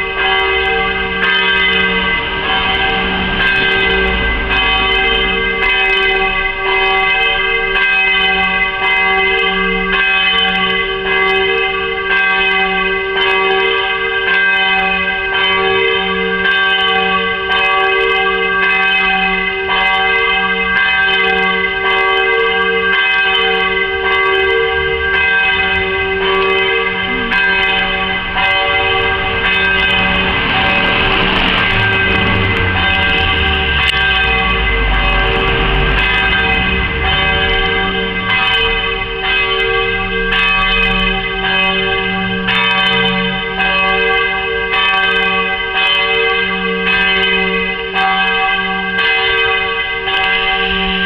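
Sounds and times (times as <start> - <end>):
church bells pealing: 0.0 - 51.0.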